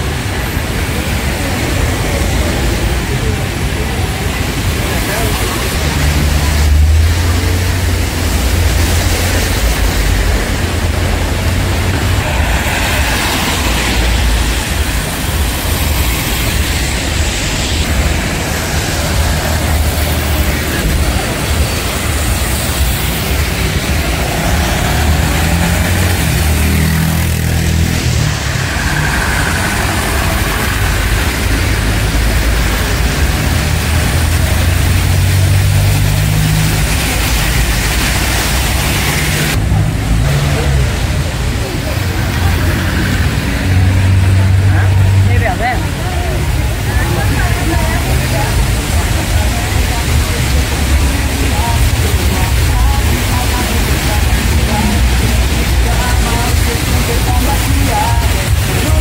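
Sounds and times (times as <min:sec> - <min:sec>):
tyres hissing through water: 0:00.0 - 0:59.0
vehicle engines running: 0:00.0 - 0:59.0.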